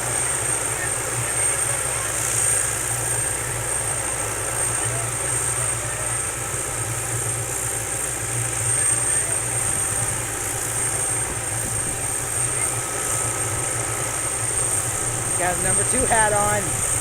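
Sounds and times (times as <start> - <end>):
helicopter rotor chop and whine: 0.0 - 17.0.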